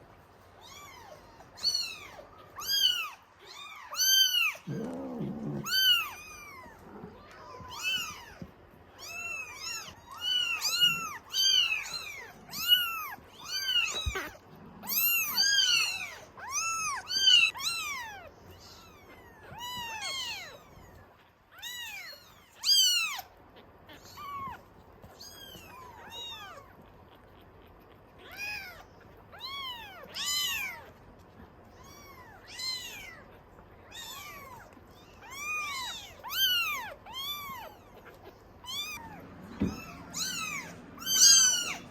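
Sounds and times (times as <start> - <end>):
kittens mewing: 0.5 - 41.9.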